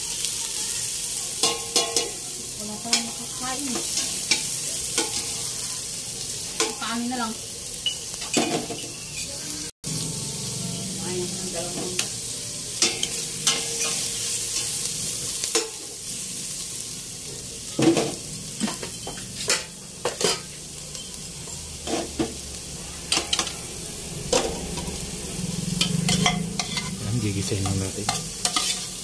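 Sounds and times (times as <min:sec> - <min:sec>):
aromatics sizzling in hot oil: 0:00.0 - 0:29.0.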